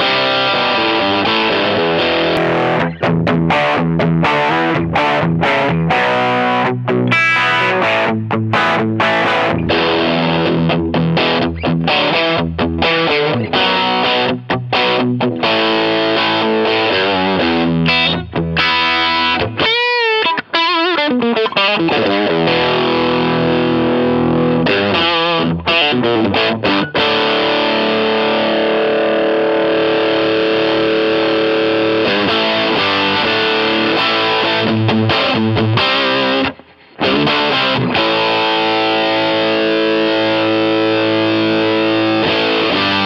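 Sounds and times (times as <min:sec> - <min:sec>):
distorted electric guitar: 0:00.0 - 0:43.0.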